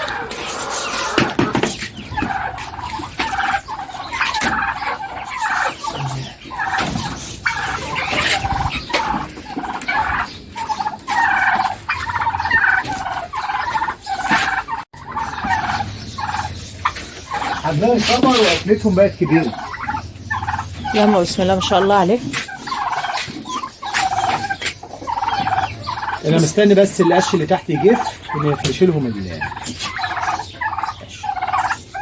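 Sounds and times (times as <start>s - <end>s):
ducks calling: 0.0s - 32.0s.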